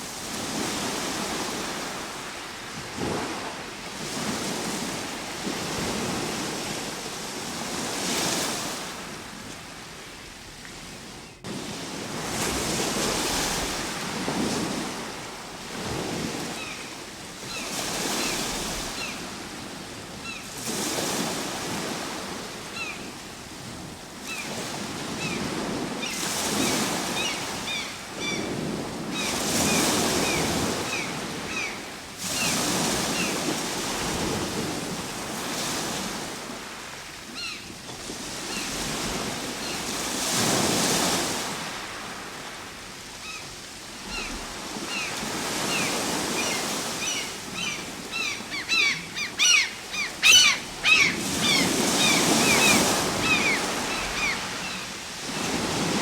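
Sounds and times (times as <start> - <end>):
ocean waves breaking: 0.0 - 9.9, 11.4 - 56.0.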